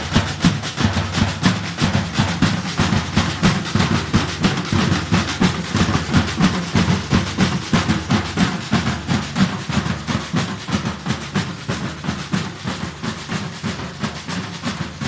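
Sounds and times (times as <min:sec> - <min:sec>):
low drum beats: 0:00.0 - 0:15.0.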